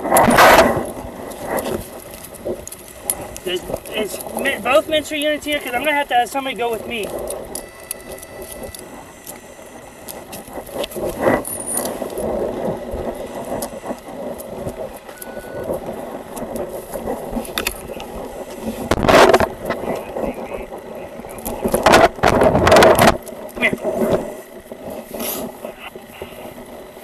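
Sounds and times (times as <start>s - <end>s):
body camera rubbing and rattling: 0.0s - 27.0s.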